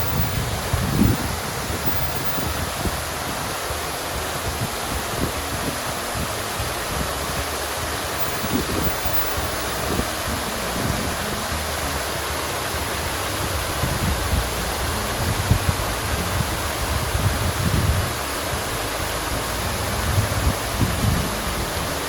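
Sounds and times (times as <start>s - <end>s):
fountain water splashing: 0.0s - 22.0s
low rumbles: 0.0s - 22.0s.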